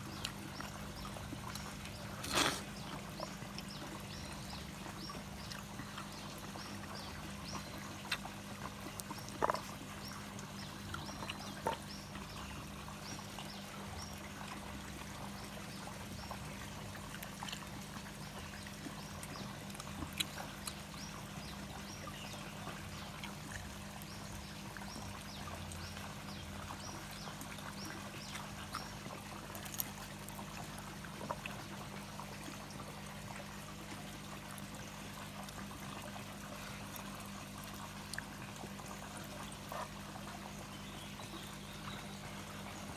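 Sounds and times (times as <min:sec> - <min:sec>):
water pouring and trickling: 0:00.0 - 0:42.9.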